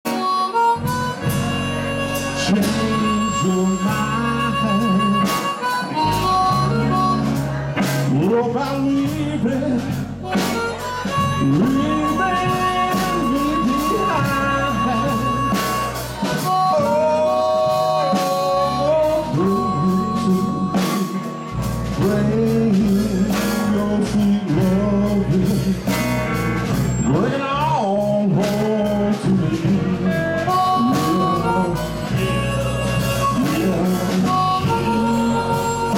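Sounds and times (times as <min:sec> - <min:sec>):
blues band playing: 0:00.0 - 0:35.9
harmonica: 0:00.0 - 0:35.9.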